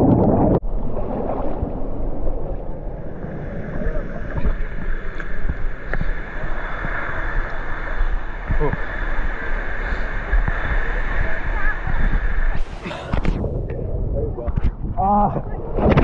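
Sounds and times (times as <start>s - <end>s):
underwater churning and bubbling: 0.0s - 16.0s
water rushing with low rumble: 0.0s - 16.0s.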